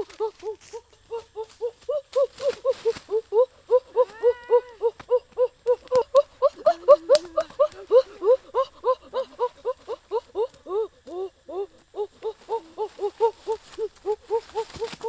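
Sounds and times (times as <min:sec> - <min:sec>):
animal chirping: 0:00.0 - 0:15.0.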